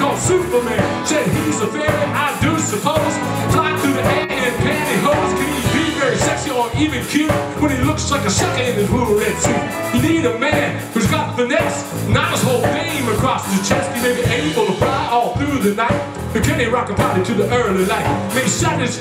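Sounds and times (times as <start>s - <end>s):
live rock and roll band: 0.0s - 19.0s
person singing: 0.0s - 19.0s.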